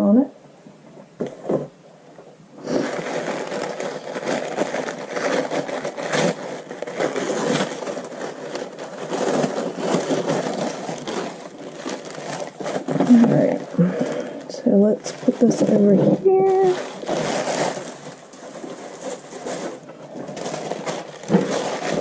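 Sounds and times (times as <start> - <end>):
packaging crinkling and tearing: 2.6 - 22.0.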